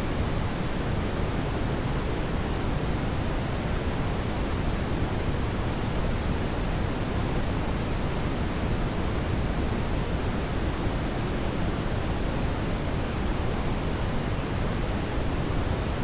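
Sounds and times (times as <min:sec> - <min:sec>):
brown noise hiss: 0:00.0 - 0:16.0.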